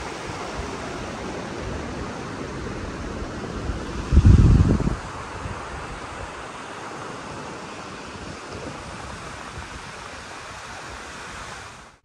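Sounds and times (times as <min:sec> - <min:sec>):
sea surf washing onto beach: 0:00.0 - 0:12.0
wind: 0:00.0 - 0:12.0.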